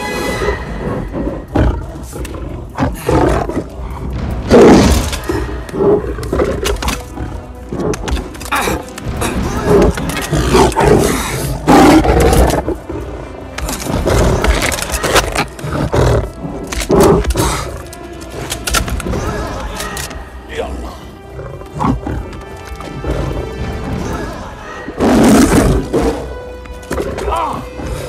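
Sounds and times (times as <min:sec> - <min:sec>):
film score music: 0:00.0 - 0:28.0
lion snarling and roaring: 0:00.4 - 0:20.2, 0:21.0 - 0:28.0.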